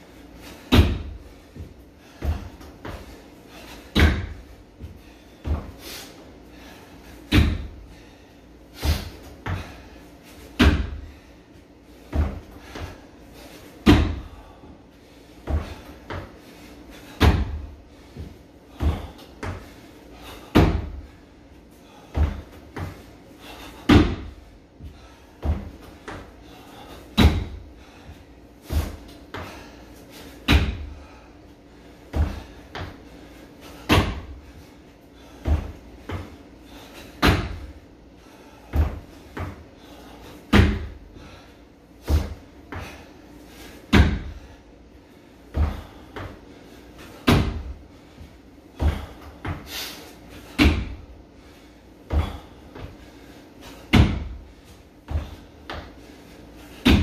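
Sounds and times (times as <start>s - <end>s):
feet thudding on wooden box: 0.4s - 8.1s, 8.8s - 11.3s, 12.0s - 14.6s, 15.4s - 21.2s, 21.8s - 31.2s, 32.1s - 37.8s, 38.6s - 41.4s, 42.0s - 44.6s, 45.5s - 57.0s.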